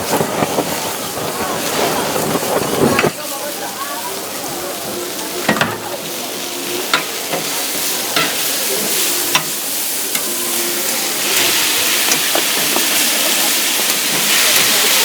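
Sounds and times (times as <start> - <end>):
steak sizzling on a griddle: 0.2 - 15.0.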